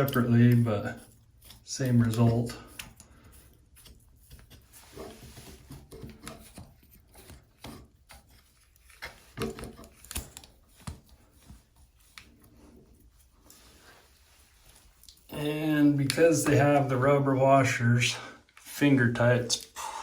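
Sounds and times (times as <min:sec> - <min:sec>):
threads rubbing and scraping: 0:00.0 - 0:17.8.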